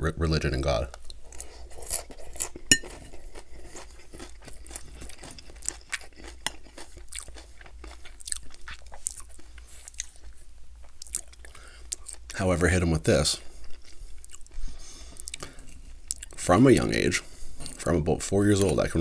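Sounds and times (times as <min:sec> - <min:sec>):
crunchy chewing of salad: 0:01.0 - 0:12.4, 0:13.4 - 0:17.8.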